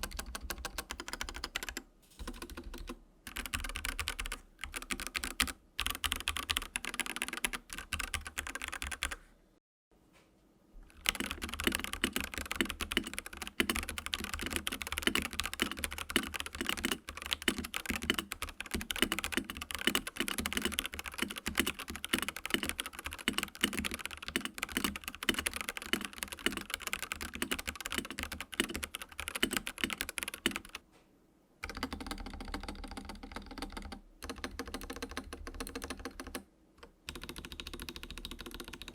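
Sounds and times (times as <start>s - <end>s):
mechanical keyboard typing clacks: 0.0s - 9.2s, 10.9s - 30.8s, 31.6s - 38.9s.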